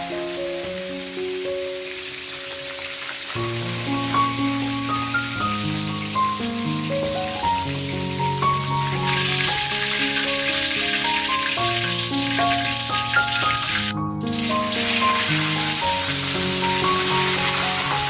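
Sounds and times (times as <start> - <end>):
fish deep-frying in hot oil: 0.0 - 18.0
soft instrumental music: 0.0 - 18.0.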